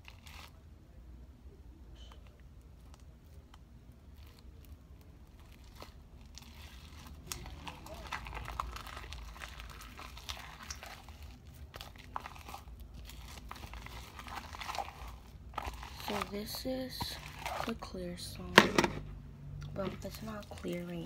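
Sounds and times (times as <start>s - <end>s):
plastic crinkling: 0.0s - 0.6s, 2.2s - 18.7s, 19.7s - 21.0s
slime being kneaded: 3.0s - 21.0s.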